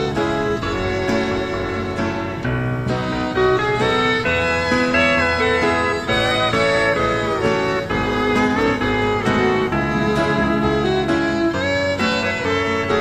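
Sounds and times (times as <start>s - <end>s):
instrumental music with strings and guitar: 0.0s - 13.0s.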